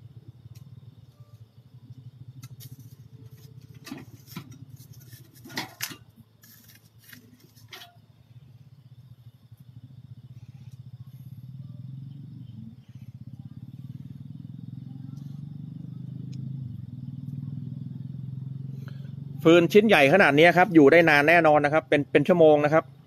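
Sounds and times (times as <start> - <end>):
cookstove fire rumbling drone: 0.0 - 21.0.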